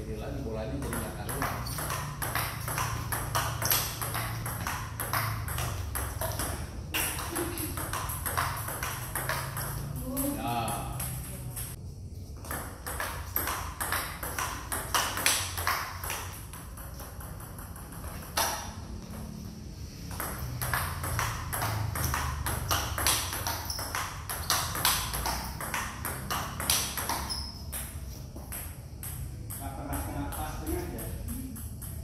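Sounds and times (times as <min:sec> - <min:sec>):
table tennis ball clicking: 0:00.8 - 0:11.8, 0:12.4 - 0:18.8, 0:20.2 - 0:29.6.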